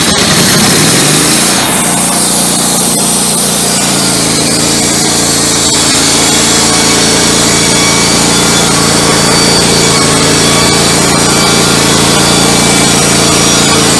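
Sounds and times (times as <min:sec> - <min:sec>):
band blade sawing through log: 0:00.0 - 0:13.9
band sawmill engine running: 0:00.0 - 0:13.9.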